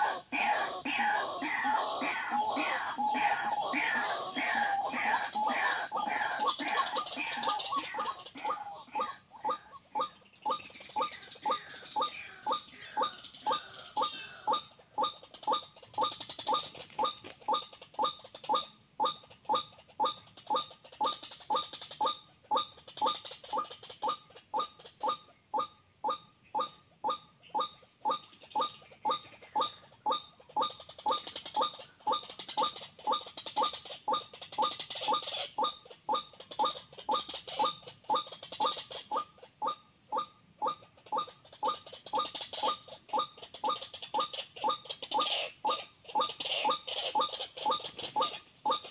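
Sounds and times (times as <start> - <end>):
waterhen call: 0.0 - 48.9.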